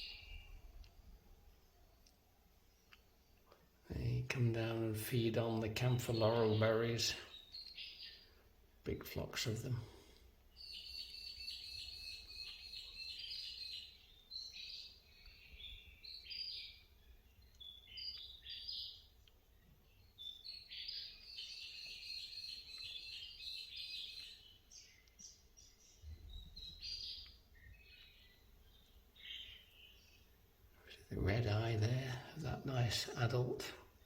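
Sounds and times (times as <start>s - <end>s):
birds chirping rapidly: 0.0s - 0.8s, 4.0s - 34.0s.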